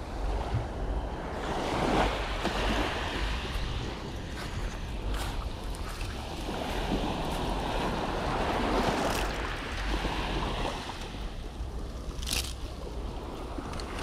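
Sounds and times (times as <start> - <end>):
waves on rocky shore: 0.0 - 14.0
wind on microphone: 0.0 - 14.0.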